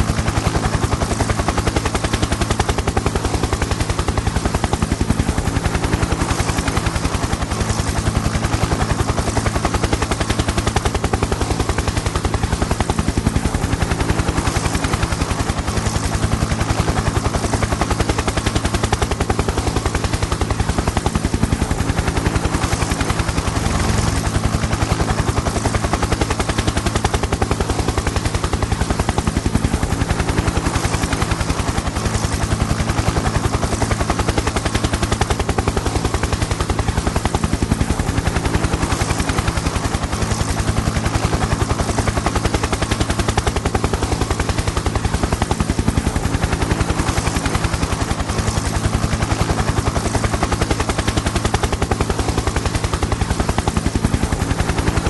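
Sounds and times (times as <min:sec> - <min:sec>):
helicopter engine drone: 0:00.0 - 0:55.0
helicopter rotor blades chopping: 0:00.0 - 0:55.0.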